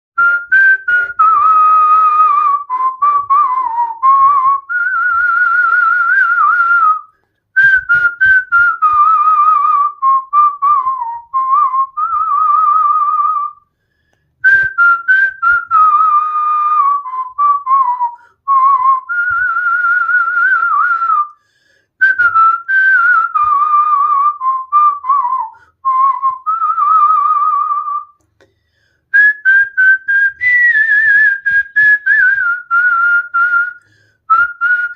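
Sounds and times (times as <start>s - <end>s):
person whistling a tune: 0.2s - 34.9s.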